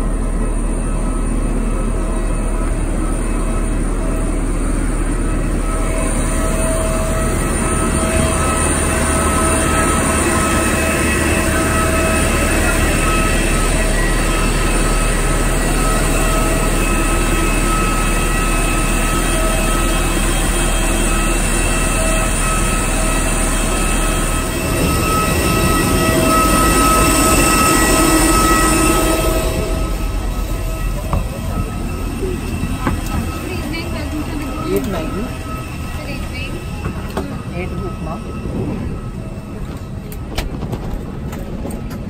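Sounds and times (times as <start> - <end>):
jet turbine whine and roar: 0.0 - 42.0.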